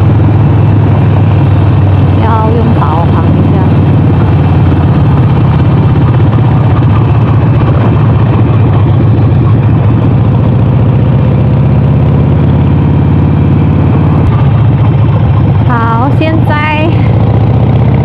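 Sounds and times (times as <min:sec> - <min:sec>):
motorcycle engine running steadily: 0:00.0 - 0:18.0.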